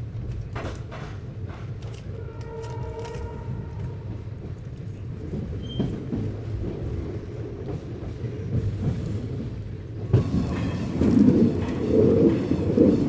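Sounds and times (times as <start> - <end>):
train wheels rumbling on track: 0.0 - 13.0
track clatter: 0.1 - 13.0.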